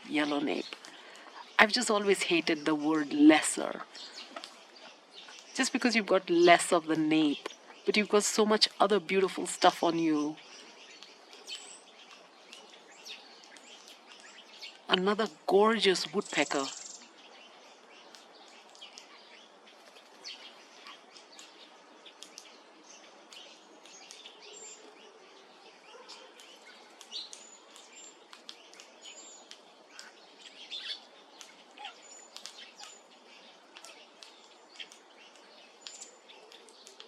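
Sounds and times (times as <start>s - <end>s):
birds chirping: 0.0s - 37.0s
steady low hiss: 0.0s - 37.0s.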